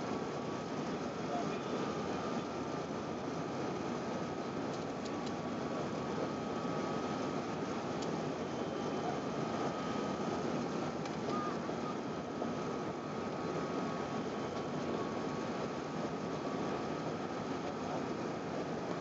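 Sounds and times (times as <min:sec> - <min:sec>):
airliner cabin engine rush: 0:00.0 - 0:19.0
faint steady whine: 0:00.0 - 0:19.0.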